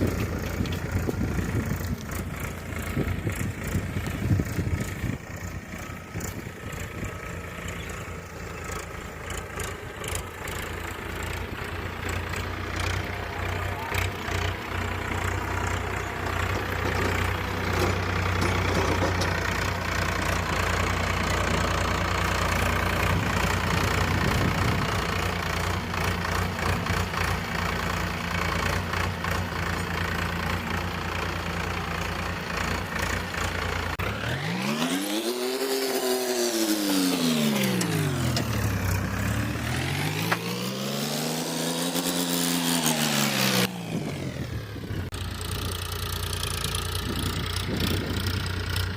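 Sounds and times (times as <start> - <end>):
diesel tractor engine revving: 0.0 - 48.9.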